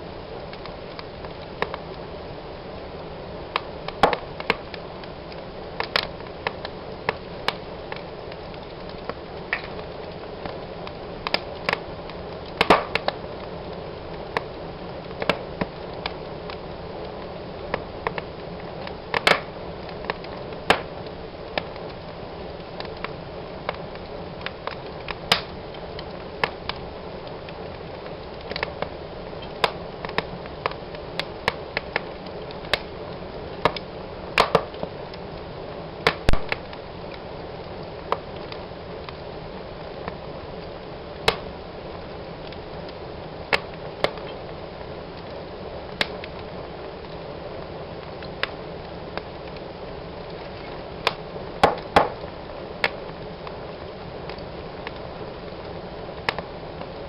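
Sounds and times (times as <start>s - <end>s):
flames hissing: 0.0s - 57.0s
wood fire crackling: 0.0s - 57.0s.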